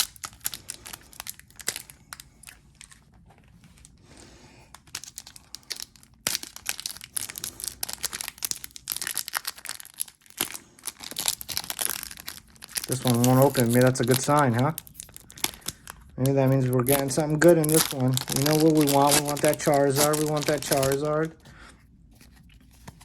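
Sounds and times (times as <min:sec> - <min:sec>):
foil wrapper crinkling: 0:00.0 - 0:21.7.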